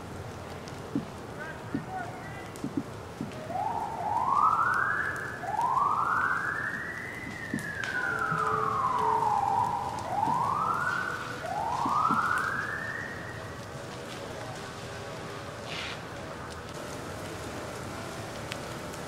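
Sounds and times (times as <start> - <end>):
emergency siren wailing: 0.9 - 19.0.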